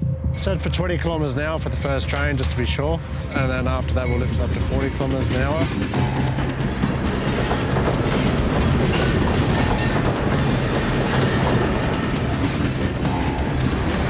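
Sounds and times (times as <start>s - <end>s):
diesel locomotive hum: 0.0s - 14.0s
train wheels clacking on rails: 0.7s - 14.0s.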